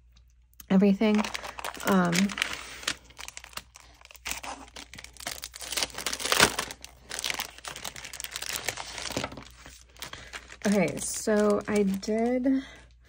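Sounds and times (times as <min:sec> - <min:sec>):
plastic packaging crinkling: 0:00.8 - 0:12.9.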